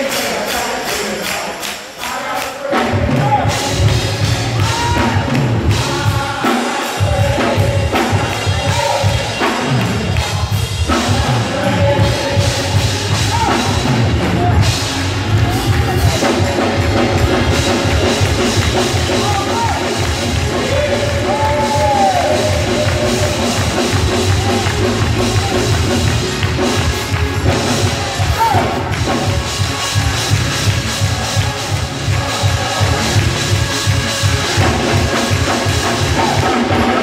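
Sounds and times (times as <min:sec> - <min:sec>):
congregation clapping: 0:00.0 - 0:37.0
drum kit and band playing: 0:00.0 - 0:37.0
singers' voices: 0:00.0 - 0:37.0.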